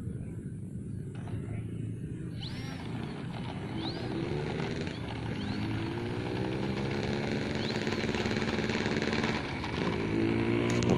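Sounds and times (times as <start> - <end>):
model airplane engine running: 1.1 - 10.9.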